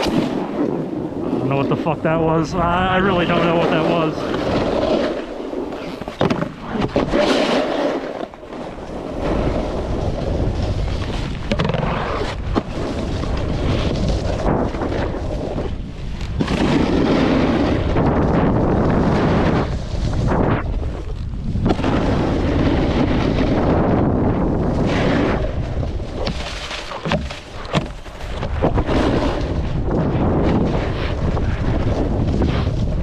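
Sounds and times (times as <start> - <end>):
snowboard rumbling over snow: 0.0 - 33.0
wind rushing over microphone: 0.0 - 33.0.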